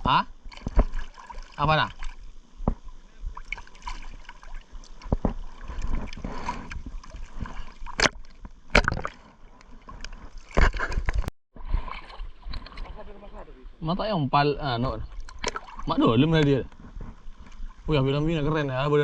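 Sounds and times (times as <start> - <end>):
water sloshing and splashing: 0.1 - 13.6, 14.7 - 18.6.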